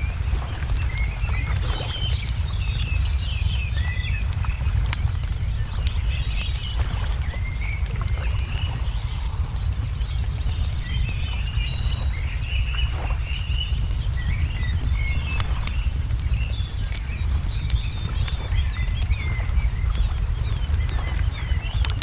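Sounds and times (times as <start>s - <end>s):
birds chirping: 0.0s - 22.0s
steady low rumble: 0.0s - 22.0s
wood fire crackling and popping: 0.0s - 22.0s.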